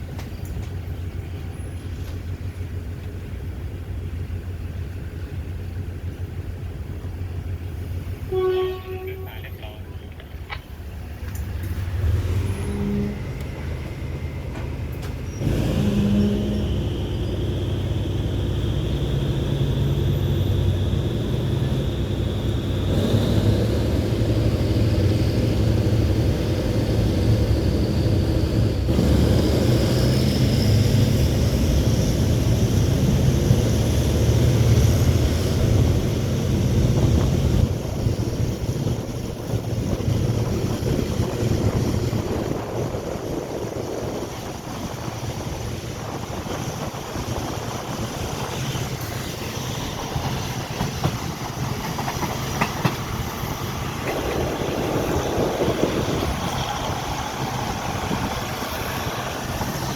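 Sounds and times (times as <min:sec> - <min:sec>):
train rumbling along: 0:00.0 - 0:59.9.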